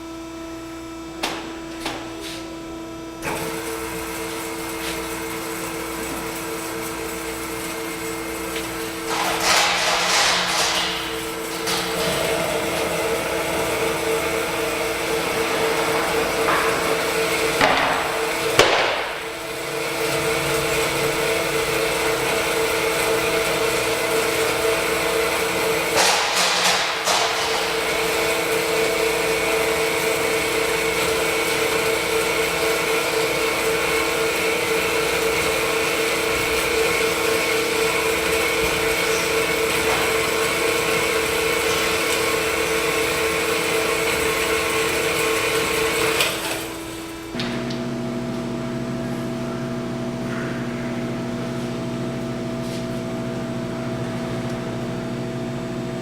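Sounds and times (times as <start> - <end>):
band saw humming: 0.0 - 56.0.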